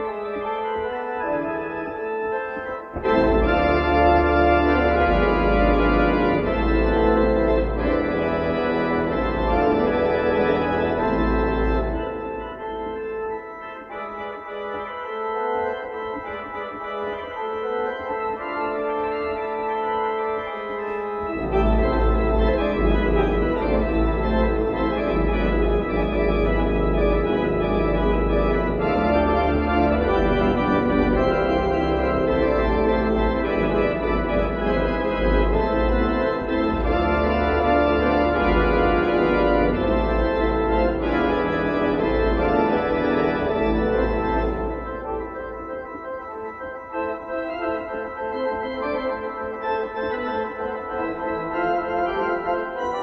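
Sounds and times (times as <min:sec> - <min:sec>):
deep bass organ notes: 0:00.0 - 0:53.0
organ playing sustained chords: 0:00.0 - 0:53.0.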